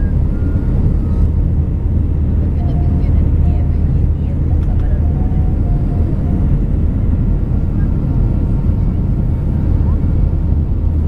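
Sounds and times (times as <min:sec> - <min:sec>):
jet engines rumbling: 0:00.0 - 0:11.0
rushing airflow: 0:00.0 - 0:11.0.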